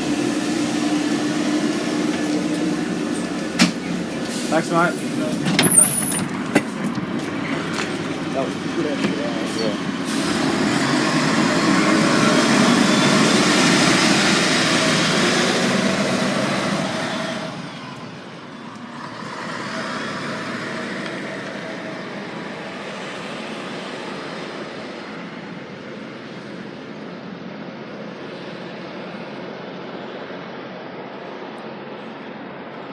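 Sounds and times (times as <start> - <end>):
bus diesel engine pulling away: 0.0 - 29.1.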